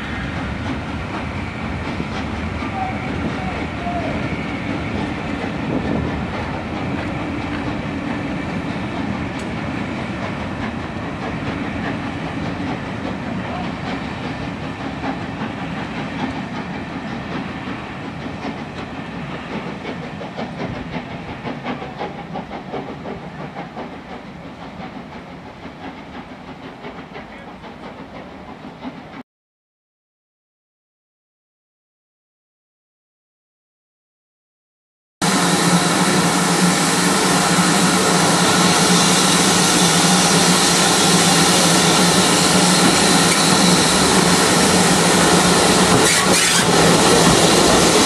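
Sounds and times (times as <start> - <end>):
train wheels clicking over rail joints: 0.2 - 29.2, 35.6 - 48.0.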